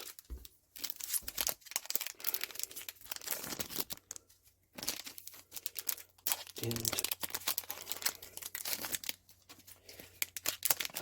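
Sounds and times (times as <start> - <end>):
foil wrappers crinkling and tearing: 0.0 - 11.0.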